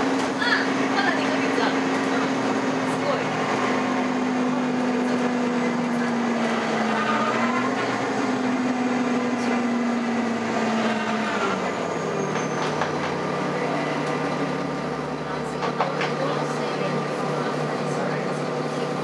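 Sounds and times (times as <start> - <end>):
bus drivetrain droning: 0.0 - 19.0.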